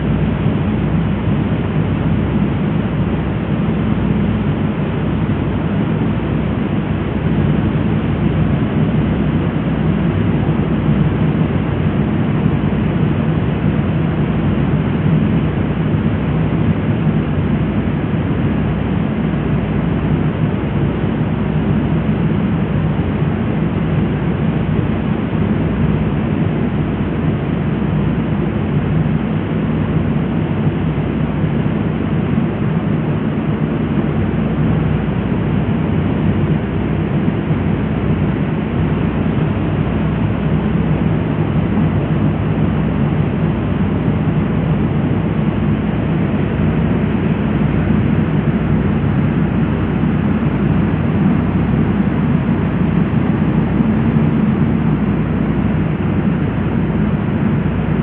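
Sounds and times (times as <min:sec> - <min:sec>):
ferry engine droning: 0:00.0 - 0:58.0
water rushing along hull: 0:00.0 - 0:58.0.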